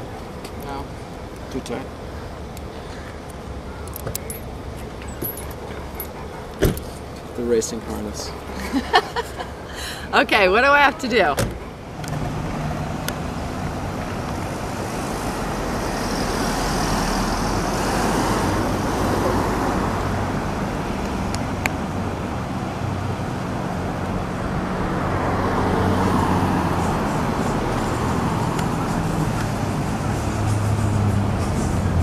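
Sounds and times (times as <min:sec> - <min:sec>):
car engine hum and road noise: 0:00.0 - 0:32.0.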